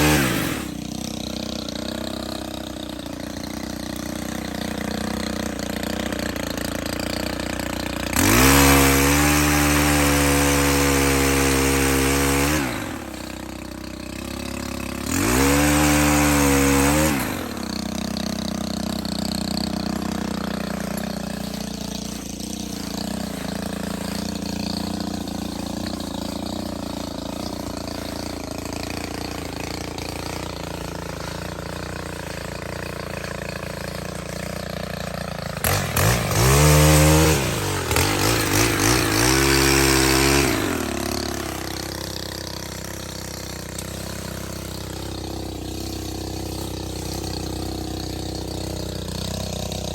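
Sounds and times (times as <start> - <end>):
pole saw engine revving: 0.0 - 49.9.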